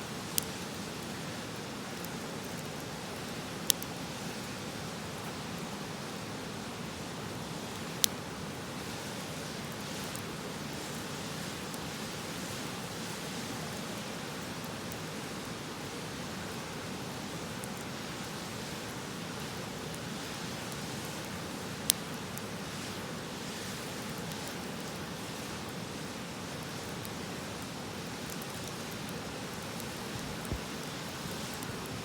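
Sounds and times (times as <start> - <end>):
wood campfire crackling: 0.0 - 32.0.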